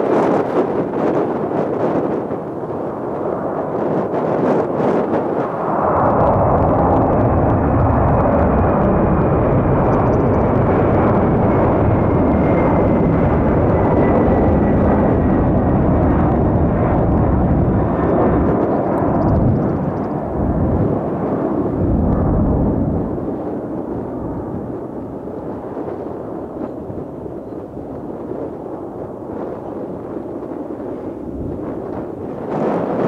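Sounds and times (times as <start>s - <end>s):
jet airliner passing: 0.0s - 33.0s.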